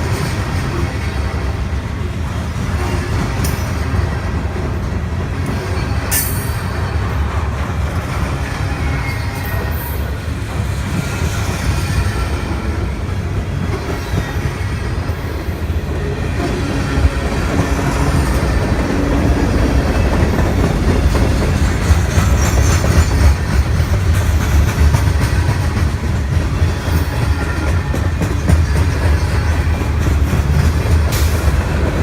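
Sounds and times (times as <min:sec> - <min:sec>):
train wheels clattering: 0:02.4 - 0:32.0.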